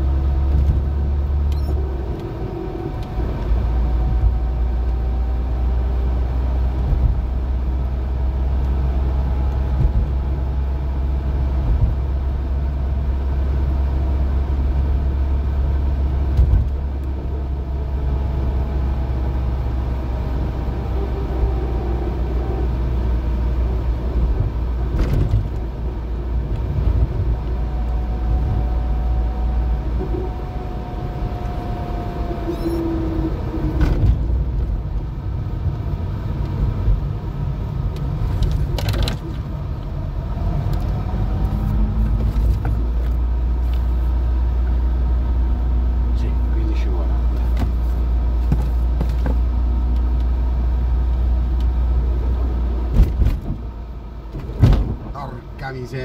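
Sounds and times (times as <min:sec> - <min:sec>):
car engine and road rumble: 0:00.0 - 0:56.0
faint engine whine: 0:00.0 - 0:56.0.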